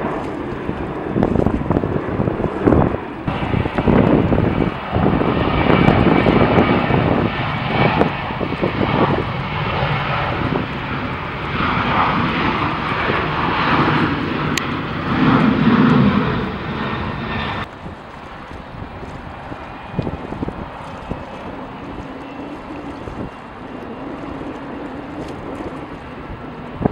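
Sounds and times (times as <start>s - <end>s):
jet airliner engine passing: 0.0s - 26.9s.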